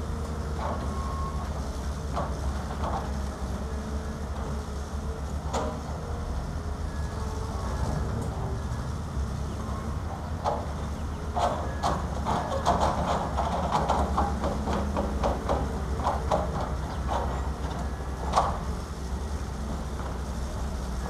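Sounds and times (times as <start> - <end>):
diesel engines droning: 0.0 - 21.0.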